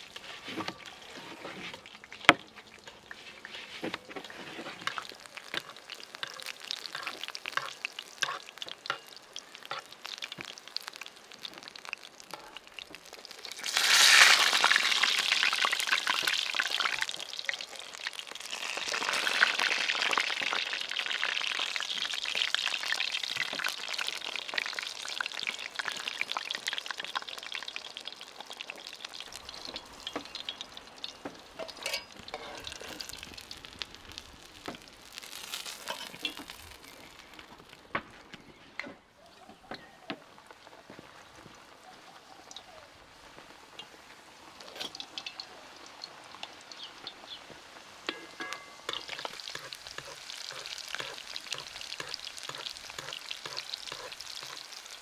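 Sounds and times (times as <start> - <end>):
food sizzling in hot oil: 0.0 - 37.8, 40.4 - 55.0.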